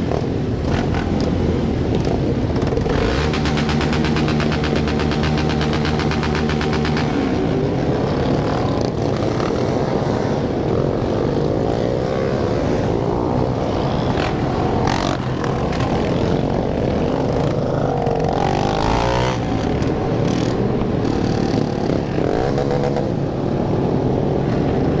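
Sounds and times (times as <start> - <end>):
motorcycles revving: 0.0 - 25.0.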